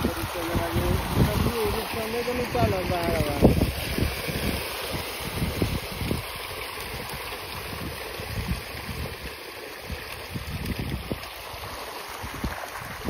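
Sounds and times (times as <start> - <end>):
fish thrashing in water: 0.0 - 13.0
wind rumbling on microphone: 0.0 - 13.0.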